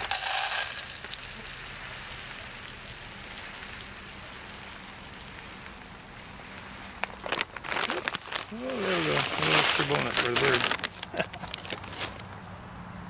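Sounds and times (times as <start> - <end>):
bird seed pouring into plastic: 0.0 - 12.2.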